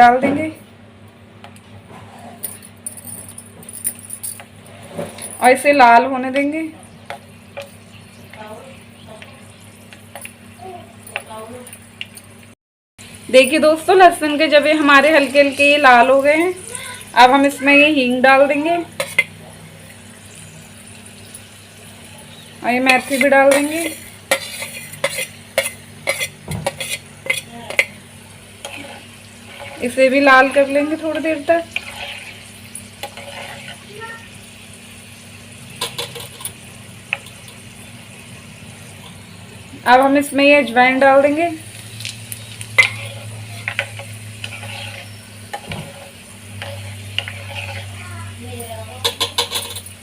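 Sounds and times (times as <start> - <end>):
spices sizzling in oil: 4.4 - 50.0.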